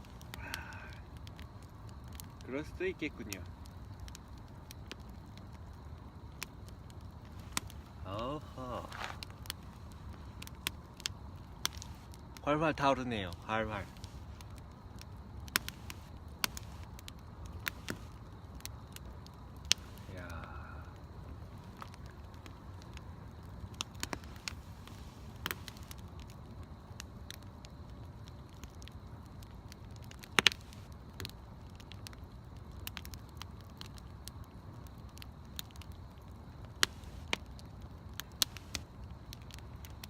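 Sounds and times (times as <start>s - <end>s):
bonfire crackling and popping: 0.0s - 40.0s.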